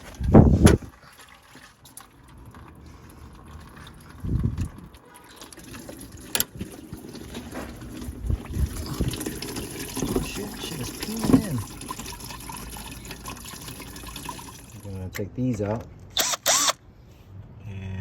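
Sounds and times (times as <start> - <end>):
coolant trickling and splashing: 0.0 - 15.0.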